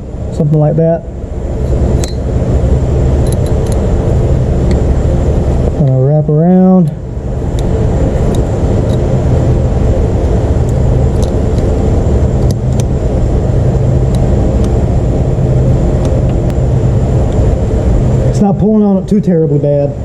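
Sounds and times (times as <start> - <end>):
loud mechanical drone: 0.0 - 20.0.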